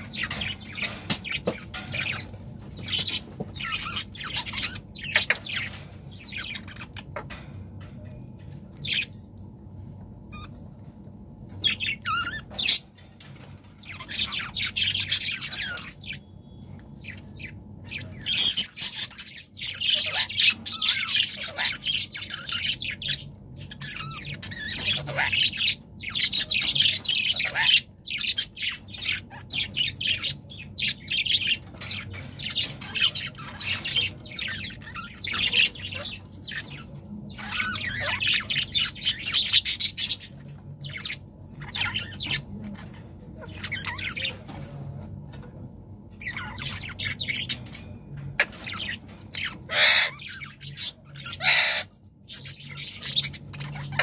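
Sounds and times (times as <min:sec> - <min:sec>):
budgerigars chattering and chirping: 0:00.0 - 0:09.2, 0:10.2 - 0:10.6, 0:11.5 - 0:45.5, 0:46.1 - 0:54.0.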